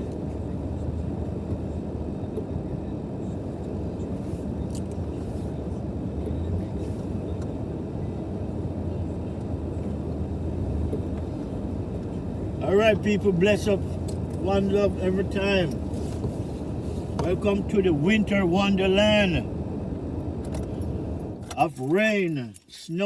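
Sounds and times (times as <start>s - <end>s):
car engine idling: 0.0s - 22.4s.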